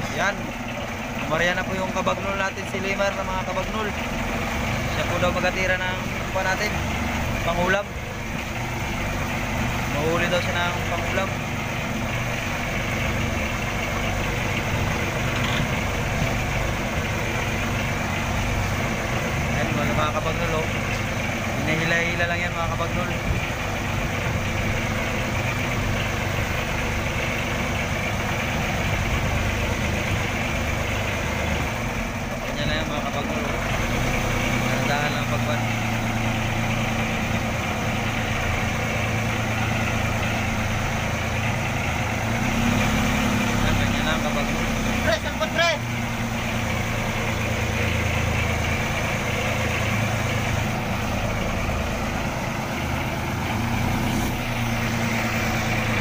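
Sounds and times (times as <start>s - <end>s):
boat engine droning: 0.0s - 56.0s
wind: 0.0s - 56.0s.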